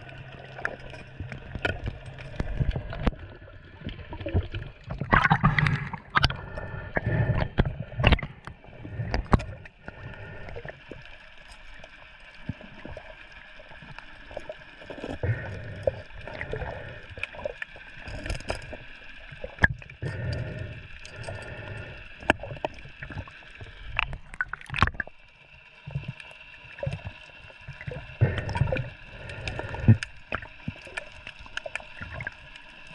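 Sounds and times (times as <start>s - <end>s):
seawater sloshing and gurgling: 0.0s - 25.2s, 25.8s - 32.9s.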